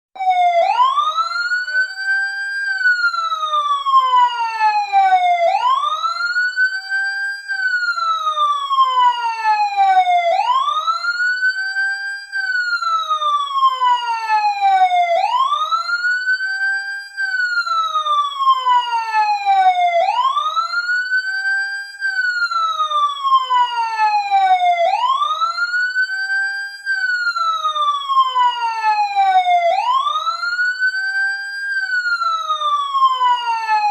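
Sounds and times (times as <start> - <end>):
police siren wailing: 0.2 - 33.9.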